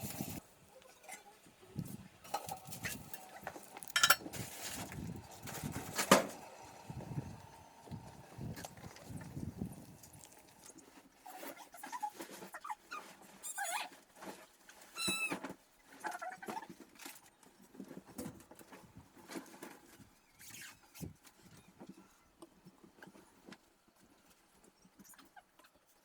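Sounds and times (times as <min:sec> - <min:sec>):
rustling: 0:00.0 - 0:22.1.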